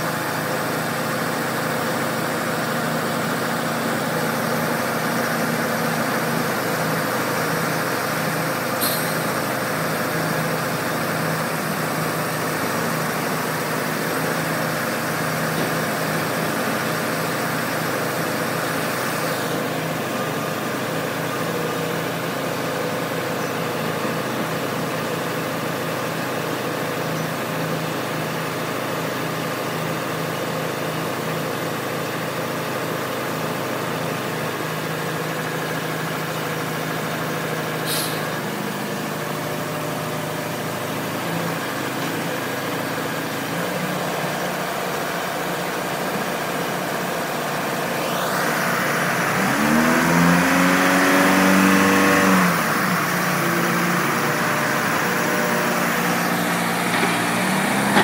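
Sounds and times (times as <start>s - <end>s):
diesel engine running and revving: 0.0s - 58.0s.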